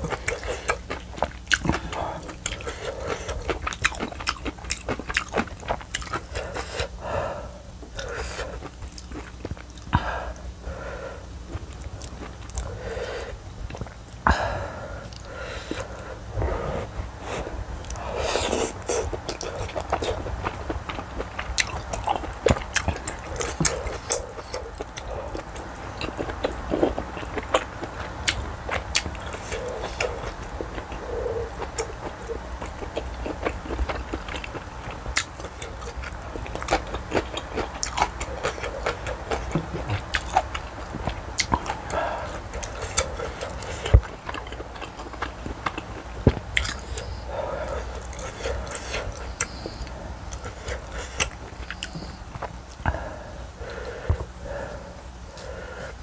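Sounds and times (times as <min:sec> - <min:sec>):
person chewing: 0:00.0 - 0:55.8.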